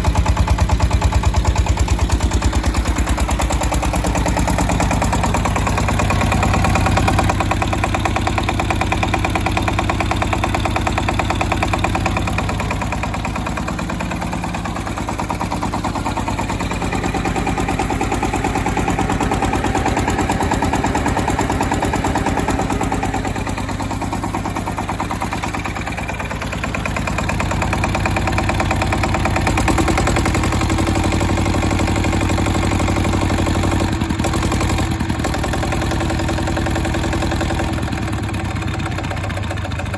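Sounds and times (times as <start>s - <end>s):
generator engine running: 0.0s - 39.9s.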